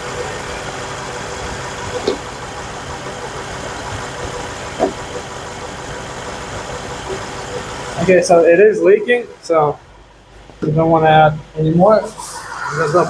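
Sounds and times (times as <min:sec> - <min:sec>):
car engine idling: 0:00.0 - 0:10.3, 0:12.0 - 0:13.0.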